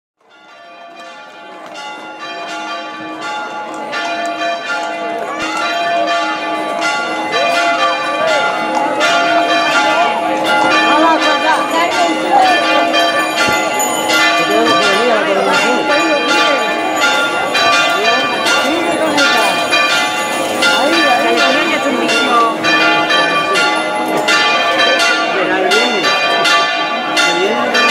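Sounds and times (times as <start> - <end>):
church bells pealing: 0.2 - 27.9
crowd voices: 1.0 - 27.9.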